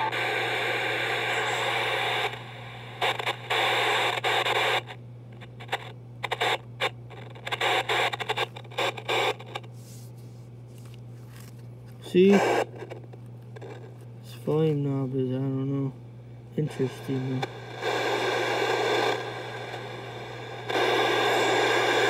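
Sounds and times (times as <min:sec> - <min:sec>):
radio speaker blaring static: 0:00.0 - 0:09.7, 0:12.0 - 0:15.8, 0:16.6 - 0:22.0.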